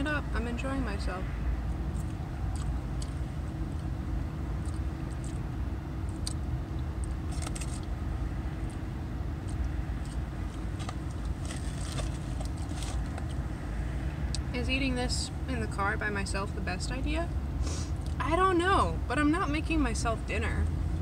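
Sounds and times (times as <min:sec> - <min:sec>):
low rumble and hum in car cabin: 0:00.0 - 0:21.0.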